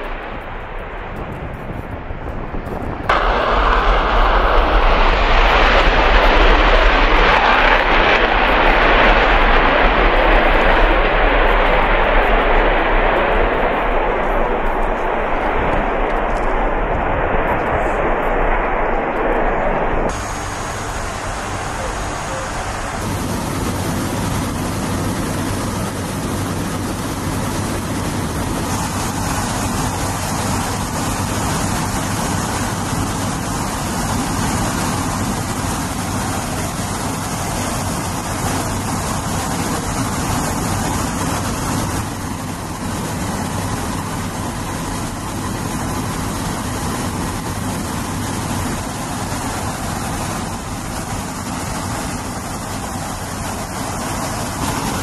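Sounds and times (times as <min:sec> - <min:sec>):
turboprop engines droning inside cabin: 0:00.0 - 0:55.0.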